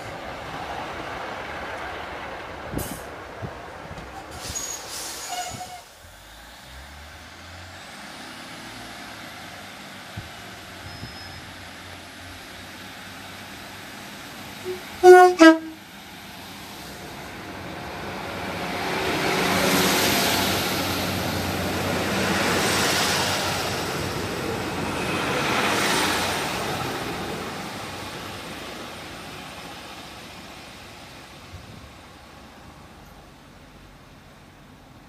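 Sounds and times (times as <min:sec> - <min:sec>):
diesel engines under power: 0:00.0 - 0:35.0
wheel and rail noise: 0:00.0 - 0:35.0.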